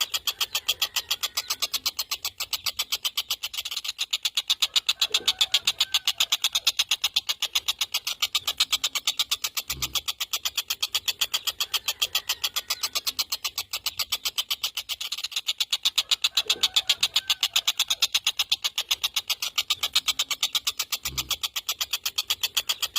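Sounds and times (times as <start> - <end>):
kingfisher rattling chatter: 0.0 - 22.9.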